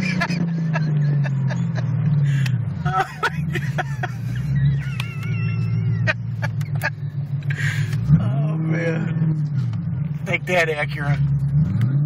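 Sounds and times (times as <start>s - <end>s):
car engine drone from inside: 0.0s - 12.0s.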